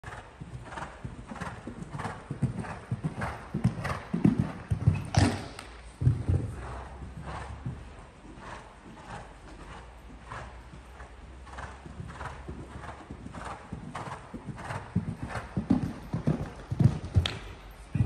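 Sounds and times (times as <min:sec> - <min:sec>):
horse hoofbeats cantering on sand: 0:00.0 - 0:18.0.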